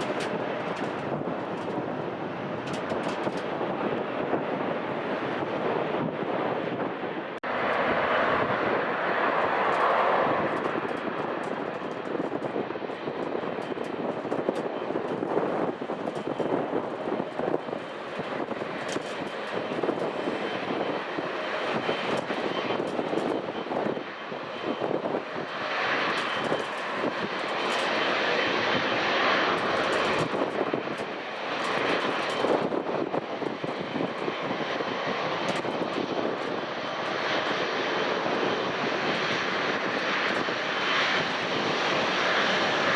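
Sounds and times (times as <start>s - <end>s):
airliner engines rushing: 0.0s - 42.9s.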